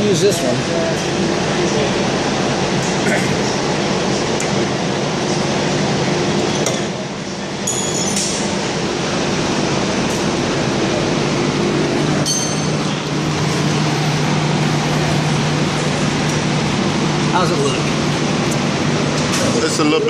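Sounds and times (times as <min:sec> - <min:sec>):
machinery hum: 0:00.0 - 0:20.0.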